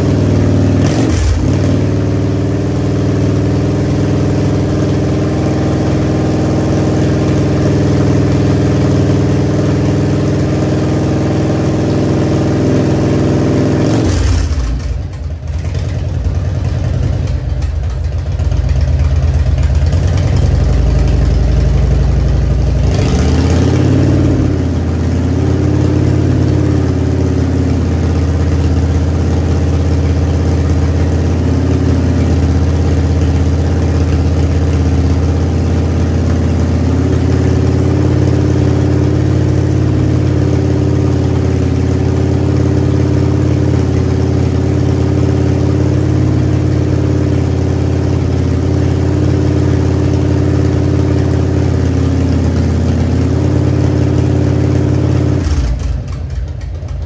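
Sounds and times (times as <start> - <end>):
motorcycle engine idling: 0.0 - 13.7, 14.5 - 57.0.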